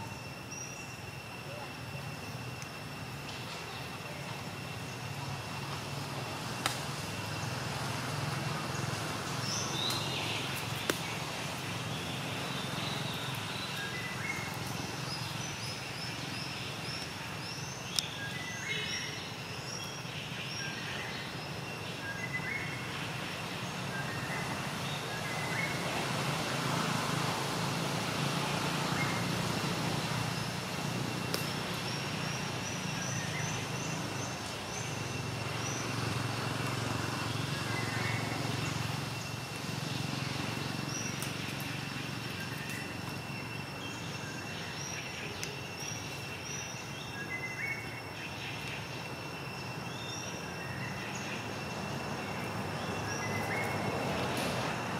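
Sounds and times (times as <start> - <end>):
small birds chirping: 3.4 - 54.4.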